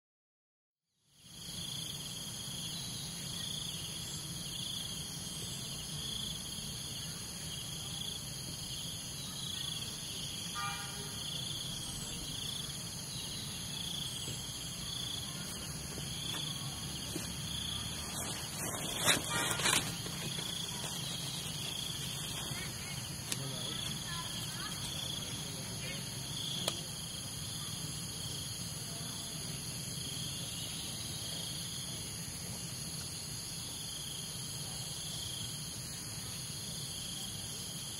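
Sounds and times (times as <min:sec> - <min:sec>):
insects trilling: 0:01.1 - 0:37.9.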